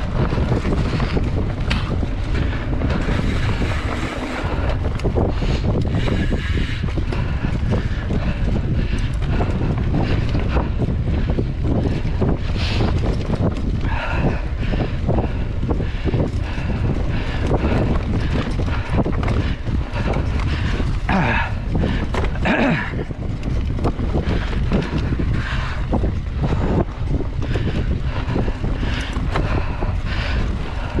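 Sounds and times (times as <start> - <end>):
bike knocks and rattles: 0.0 - 31.0
wind rushing over microphone: 0.0 - 31.0.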